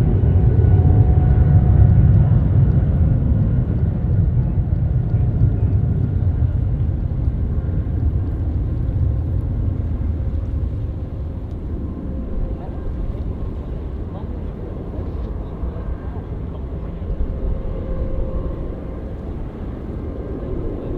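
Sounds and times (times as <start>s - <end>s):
jet engines rumbling: 0.0s - 20.9s.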